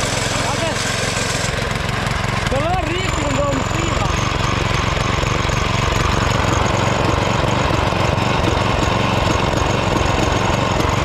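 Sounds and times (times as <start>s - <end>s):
ride-on lawnmower engine running: 0.0s - 11.0s.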